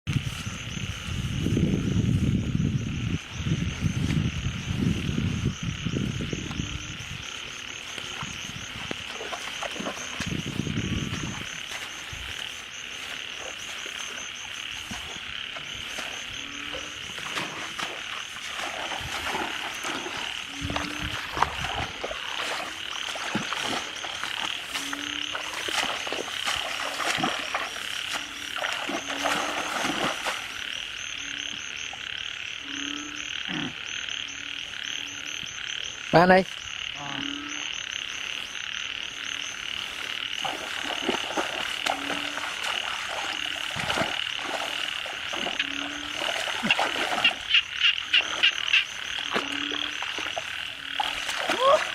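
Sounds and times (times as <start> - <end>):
frogs croaking: 0.1 - 51.9.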